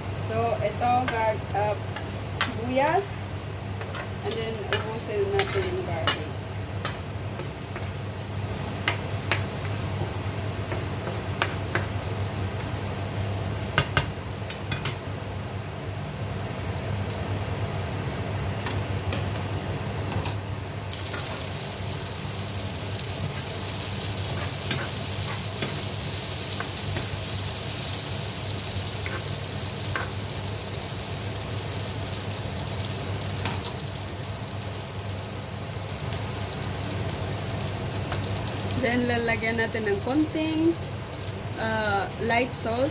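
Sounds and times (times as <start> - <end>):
onion and garlic sizzling in pan: 0.0 - 42.9.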